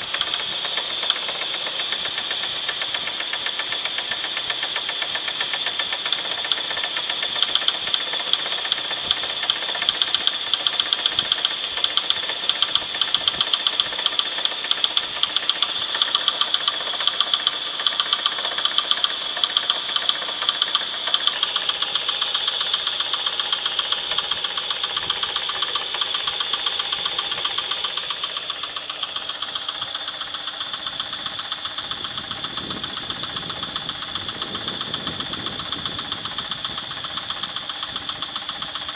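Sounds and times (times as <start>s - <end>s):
engine running with sharp knock: 0.0s - 38.9s.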